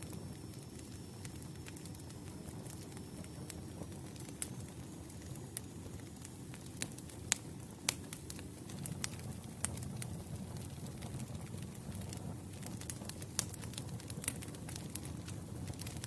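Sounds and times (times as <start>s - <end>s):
firewood crackling and popping: 0.0s - 16.0s
low rumble of flames: 0.0s - 16.0s.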